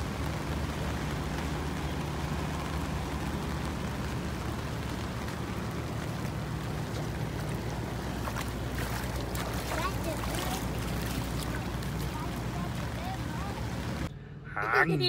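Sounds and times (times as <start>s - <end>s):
heavy rain on pavement: 0.0s - 14.1s.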